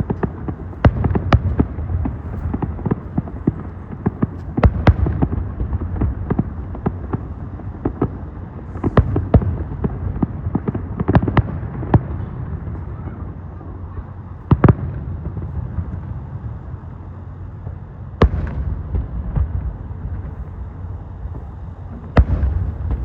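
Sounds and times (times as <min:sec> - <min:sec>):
fireworks bangs: 0:00.0 - 0:16.5, 0:17.6 - 0:23.0
continuous low rumble: 0:00.0 - 0:23.0.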